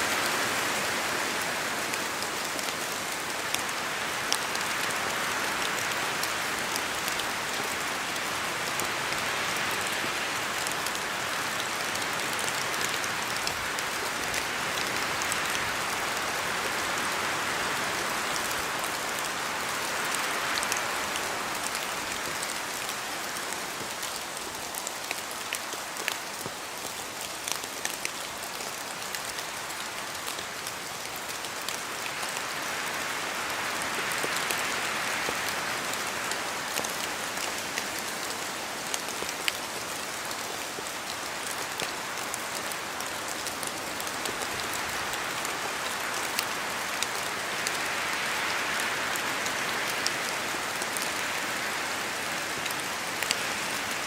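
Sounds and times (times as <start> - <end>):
rain in a forest: 0.0 - 54.0
wind in trees: 0.0 - 54.0.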